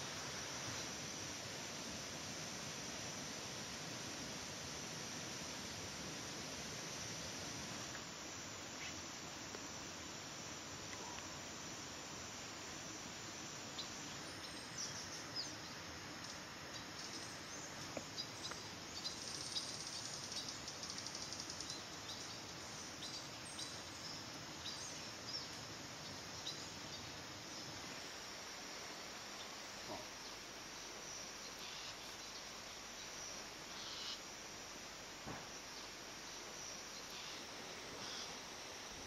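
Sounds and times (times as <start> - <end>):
insects hissing: 0.0 - 39.0
rapid insect trill: 0.0 - 39.0.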